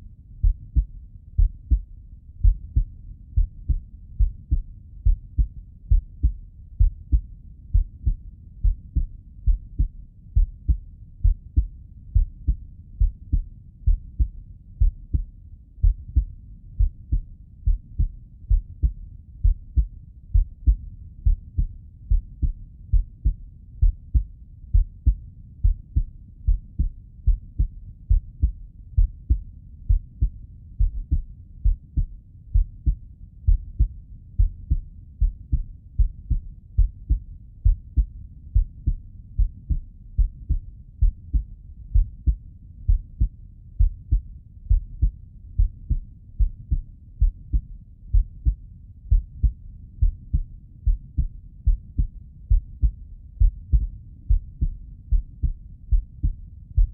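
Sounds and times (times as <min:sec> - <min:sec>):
heartbeat thumps: 0:00.4 - 0:56.9.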